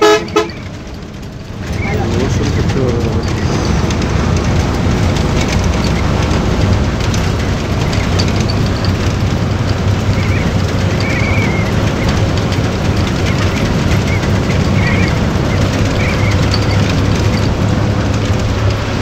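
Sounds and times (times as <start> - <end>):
vehicle road and wind noise: 0.0 - 19.0.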